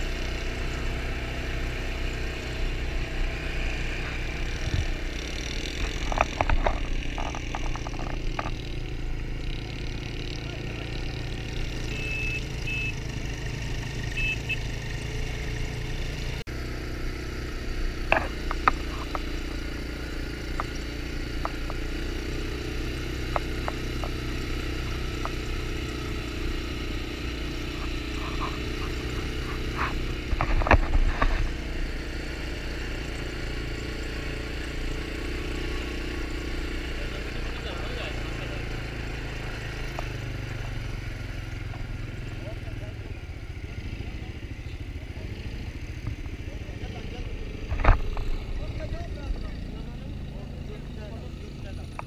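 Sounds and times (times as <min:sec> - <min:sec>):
quad bike engine running: 0:00.0 - 0:52.0.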